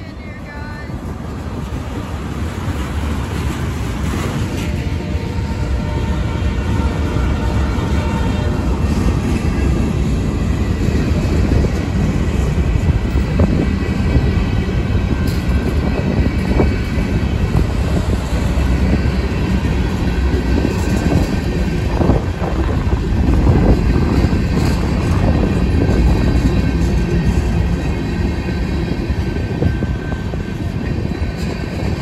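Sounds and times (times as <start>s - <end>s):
train wheels rumbling on rail: 0.0s - 32.0s
train wheel clacks: 1.0s - 5.1s, 6.8s - 32.0s.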